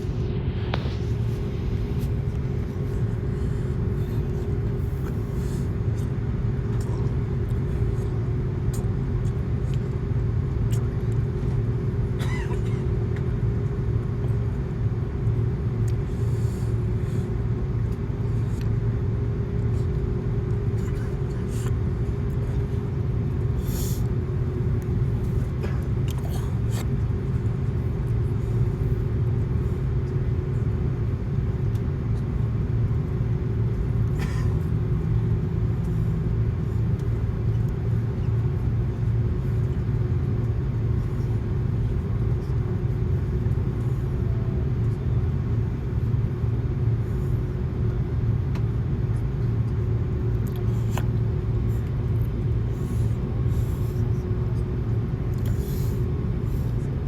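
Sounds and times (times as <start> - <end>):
airliner cabin rumble: 0.0 - 57.0
steady hum: 0.0 - 57.0.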